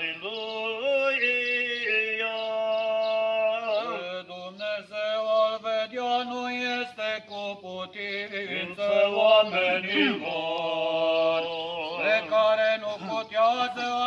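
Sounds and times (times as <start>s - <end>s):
men chanting a hymn: 0.0s - 14.0s.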